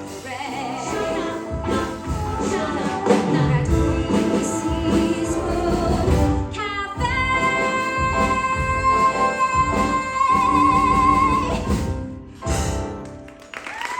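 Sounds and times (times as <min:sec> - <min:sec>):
instrumental accompaniment: 0:00.0 - 0:13.6.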